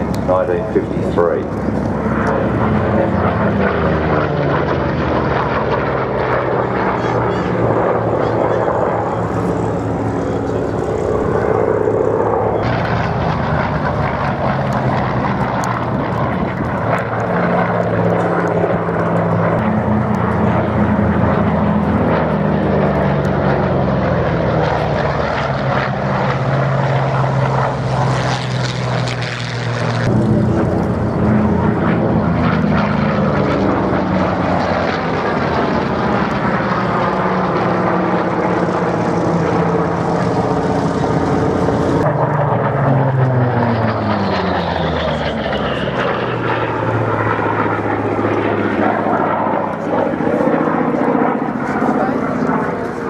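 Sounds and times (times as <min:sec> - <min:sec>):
propeller aircraft engines passing: 0:00.0 - 0:53.0.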